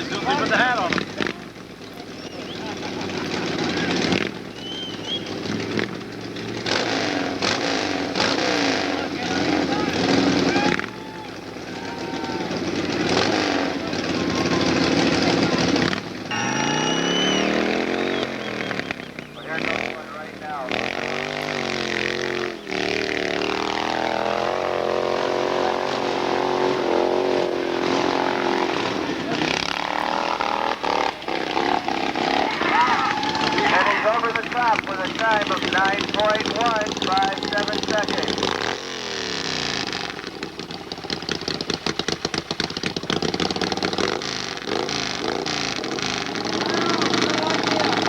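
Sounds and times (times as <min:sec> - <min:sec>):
motorcycle engine revving high: 0:00.0 - 0:48.0.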